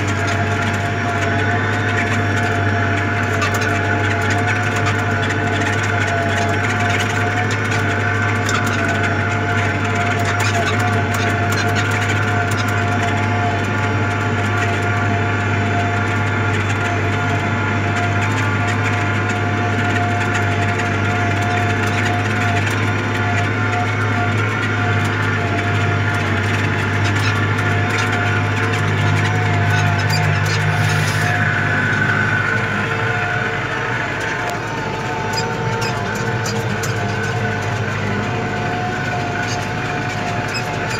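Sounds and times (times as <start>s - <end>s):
tractor engine running under load: 0.0s - 40.9s.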